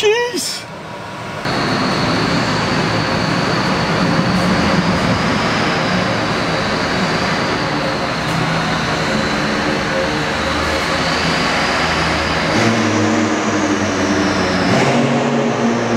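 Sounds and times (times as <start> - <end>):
high constant whine: 0.0 - 15.9
car-lift machinery humming: 0.7 - 15.9.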